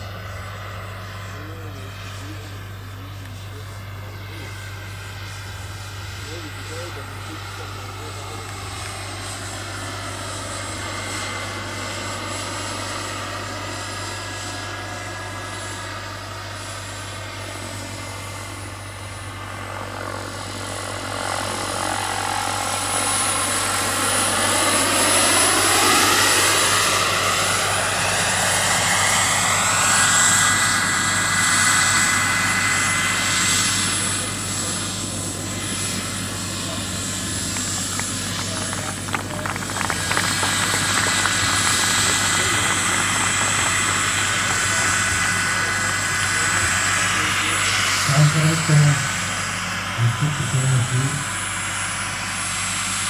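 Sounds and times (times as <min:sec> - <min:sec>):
helicopter rotor: 0:00.0 - 0:53.0
turbine whine: 0:00.0 - 0:53.0.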